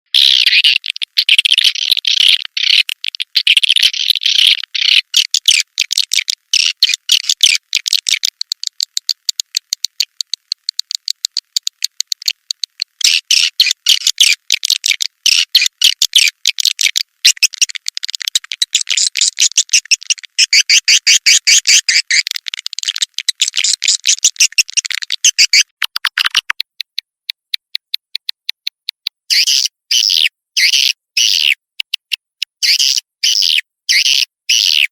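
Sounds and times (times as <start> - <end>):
swiftlets twittering: 2.9 - 33.0.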